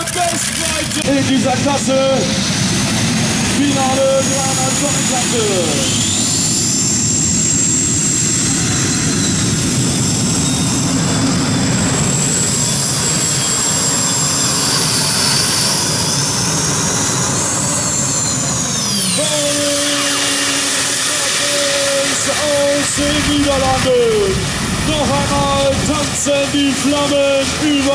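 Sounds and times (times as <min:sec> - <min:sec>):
high turbine whine: 0:00.0 - 0:27.9
turbine engines roaring: 0:00.0 - 0:27.9.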